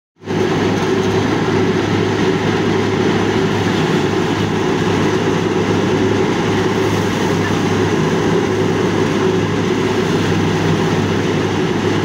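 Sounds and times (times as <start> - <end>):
threshing machine running: 0.2 - 12.0.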